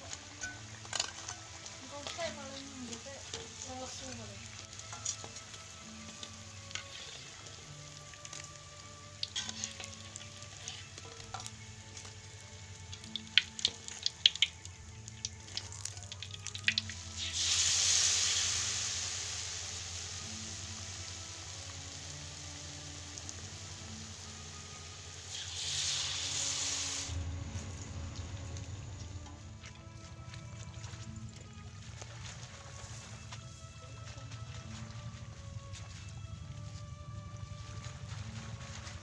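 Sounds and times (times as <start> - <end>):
loud sizzle of frying batter: 0.0 - 29.0, 30.6 - 39.0
oil crackling and popping: 0.0 - 39.0.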